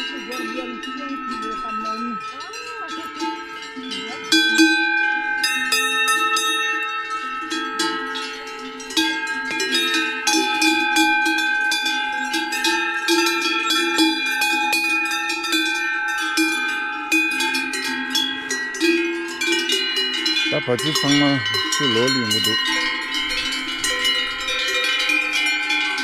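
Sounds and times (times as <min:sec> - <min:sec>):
metal bells clanking: 0:00.0 - 0:26.0.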